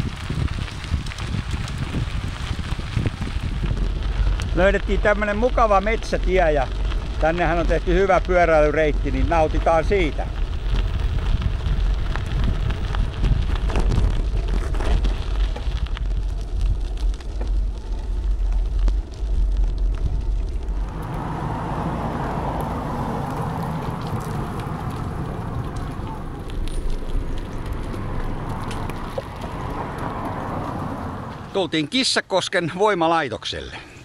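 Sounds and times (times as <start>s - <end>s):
wind buffeting microphone: 0.0s - 31.5s
bicycle tyres crunching on gravel: 0.0s - 32.0s.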